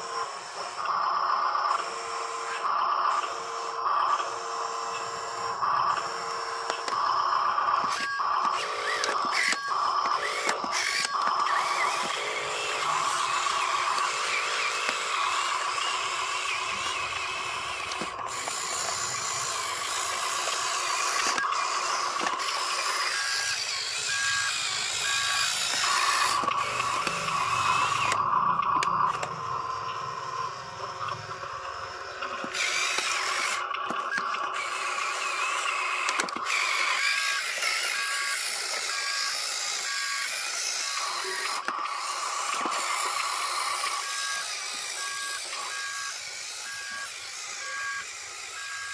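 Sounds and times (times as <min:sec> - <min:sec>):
motor whine: 0:00.0 - 0:48.9
toy truck motors whirring: 0:00.0 - 0:48.9.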